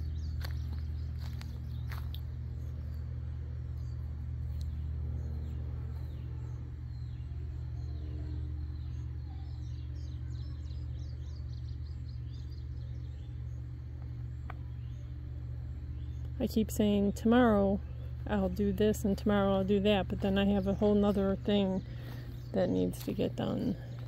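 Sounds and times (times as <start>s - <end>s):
bird chirping: 0.0s - 24.0s
faint mechanical hum: 0.0s - 24.0s
steady low rumble: 0.0s - 24.0s.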